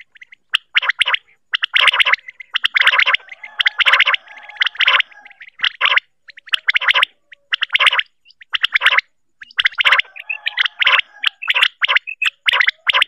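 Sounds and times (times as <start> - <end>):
faint chirps: 0.0 - 13.0
quail rattling calls: 0.0 - 13.0.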